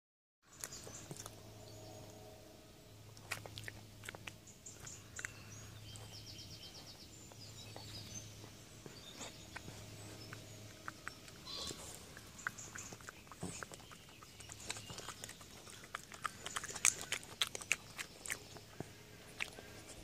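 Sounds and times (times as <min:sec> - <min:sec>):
badger crunching and chewing nuts: 0:00.5 - 0:02.3, 0:03.0 - 0:20.0
birds singing: 0:00.5 - 0:20.0.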